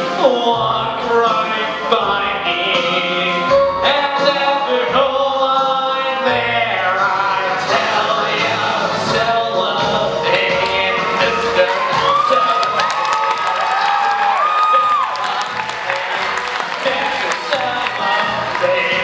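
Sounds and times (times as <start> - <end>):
man singing: 0.0 - 13.4, 14.2 - 19.0
instrumental accompaniment: 0.0 - 19.0.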